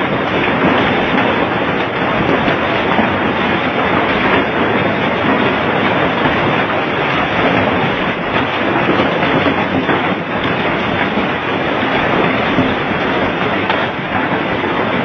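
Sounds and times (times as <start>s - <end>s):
heavy rain and hail pelting: 0.0s - 15.0s.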